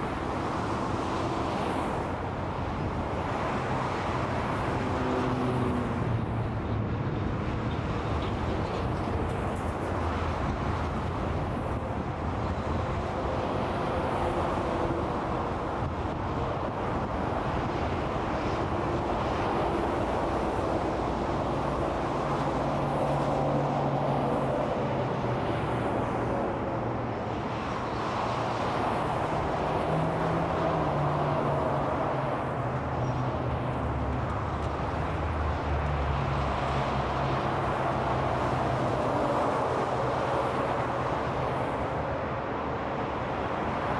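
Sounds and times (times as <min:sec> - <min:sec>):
freeway traffic: 0:00.0 - 0:43.9
vehicles passing by: 0:00.0 - 0:43.9.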